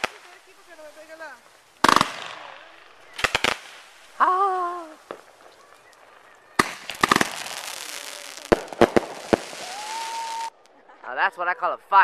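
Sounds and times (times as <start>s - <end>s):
firework crackling hiss: 0.0s - 10.6s
firework shells bursting: 0.0s - 10.6s.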